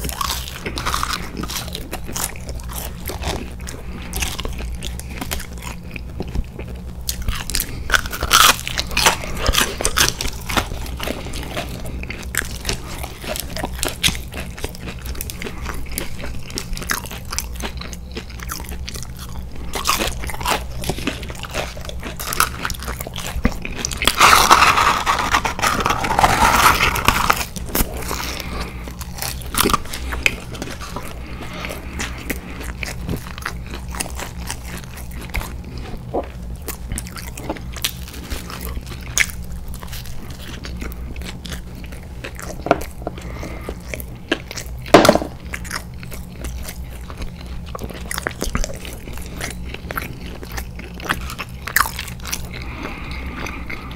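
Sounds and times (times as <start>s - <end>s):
person chewing food: 0.0s - 53.9s
steady low hum: 0.0s - 53.9s.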